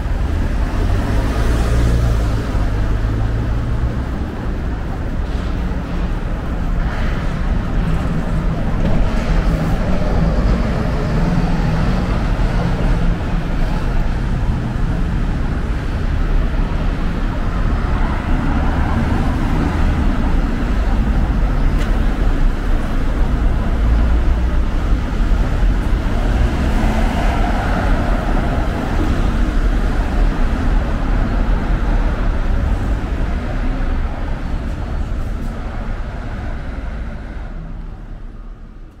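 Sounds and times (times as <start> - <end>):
cars and bus passing: 0.0 - 39.0.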